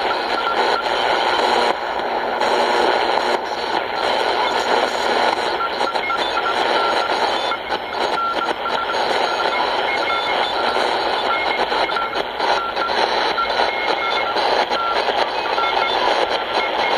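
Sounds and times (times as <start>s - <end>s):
radio static hissing: 0.0s - 16.9s.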